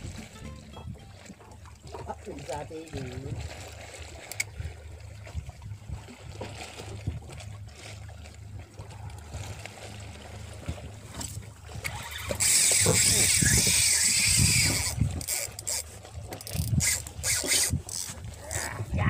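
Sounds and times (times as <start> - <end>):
low steady rumble: 0.0 - 19.0
water lapping: 0.0 - 19.0.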